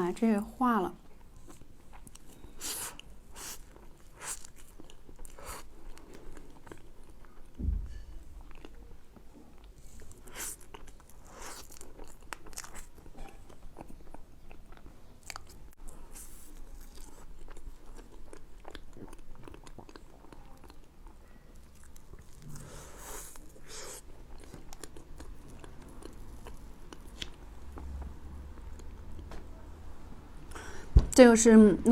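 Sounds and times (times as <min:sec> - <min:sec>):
person chewing wetly: 0:01.1 - 0:07.6, 0:08.4 - 0:29.3.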